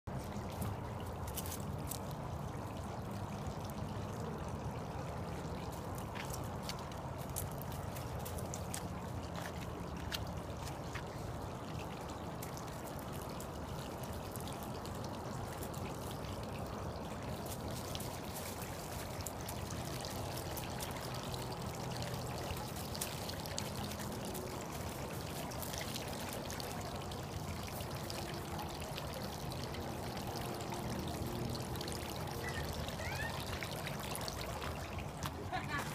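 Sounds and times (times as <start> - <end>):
running water: 0.1 - 35.9.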